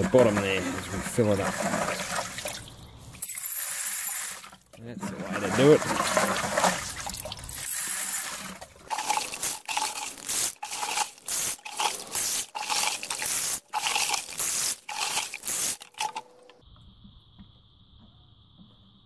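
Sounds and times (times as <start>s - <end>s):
gravel and water splashing on spoon: 0.0s - 16.2s.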